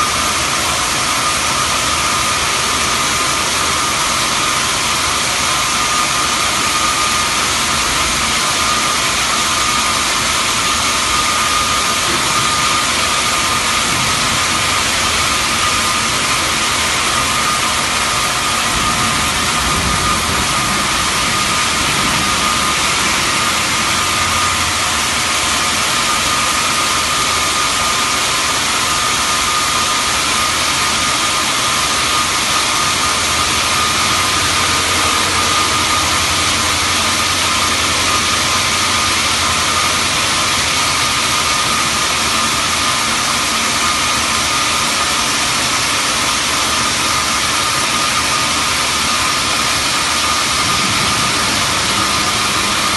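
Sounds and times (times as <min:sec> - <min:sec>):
band saw cutting stone: 0:00.0 - 0:52.9
high whine: 0:00.0 - 0:52.9.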